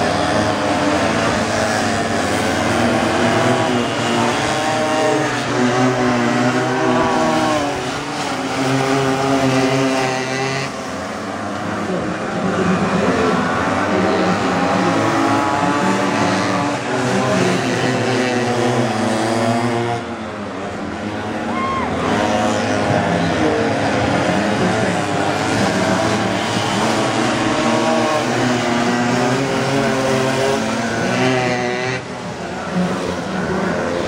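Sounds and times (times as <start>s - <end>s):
two-stroke engines running hard: 0.0s - 34.0s.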